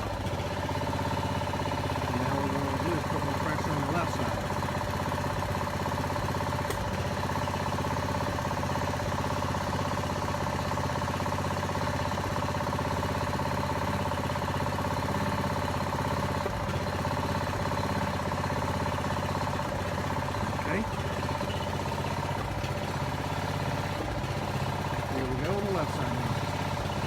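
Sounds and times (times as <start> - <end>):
small engine running steadily: 0.0 - 27.0.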